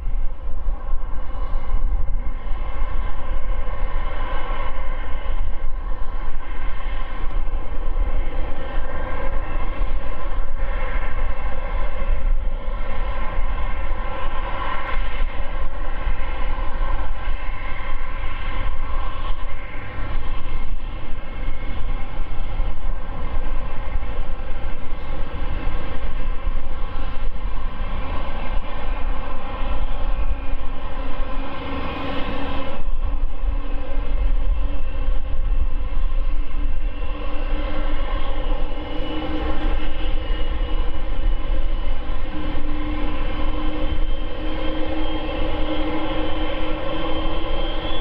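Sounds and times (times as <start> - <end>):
low steady hum: 0.0 - 48.0
jet engines spooling up: 0.1 - 48.0.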